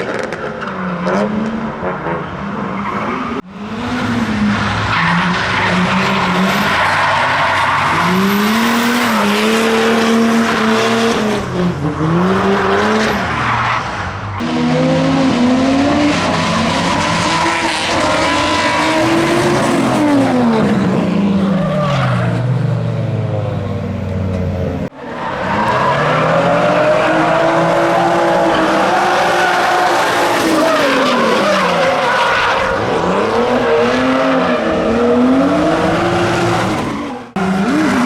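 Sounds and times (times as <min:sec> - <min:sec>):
car engines revving hard: 0:00.0 - 0:38.0
tyres squealing and skidding: 0:00.1 - 0:22.6, 0:24.9 - 0:38.0.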